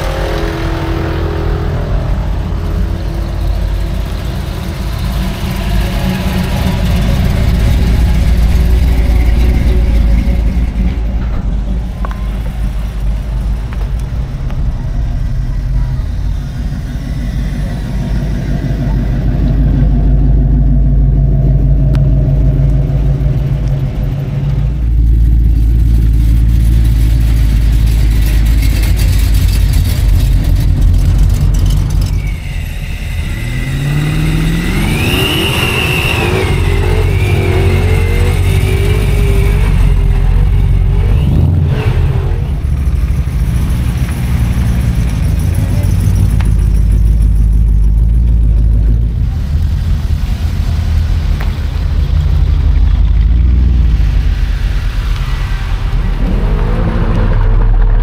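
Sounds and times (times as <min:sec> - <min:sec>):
car engines driving past: 0:00.0 - 0:58.0
loud car engine: 0:00.0 - 0:58.0.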